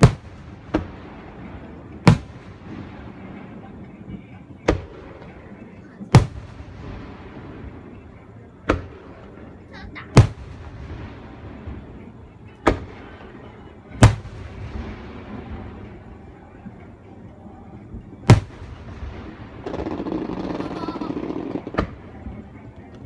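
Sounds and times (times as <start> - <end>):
firework shells booming: 0.0 - 3.7, 4.6 - 8.0, 8.6 - 16.1, 18.2 - 22.5.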